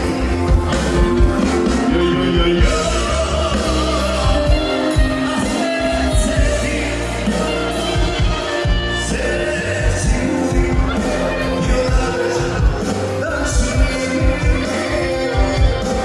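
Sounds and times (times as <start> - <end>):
bass and steady beat: 0.0 - 16.0
person singing: 0.0 - 16.0.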